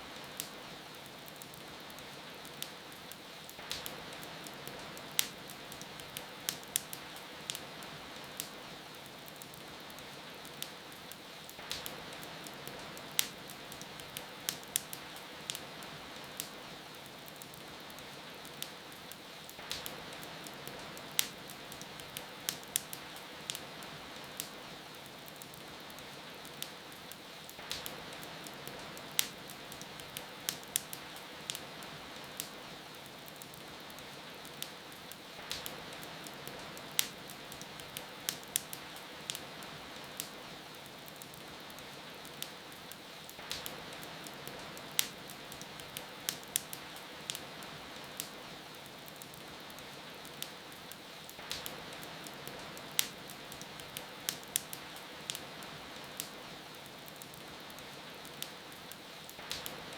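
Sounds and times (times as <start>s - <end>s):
fire crackling and popping: 0.0s - 59.9s
rain hiss: 0.0s - 59.9s.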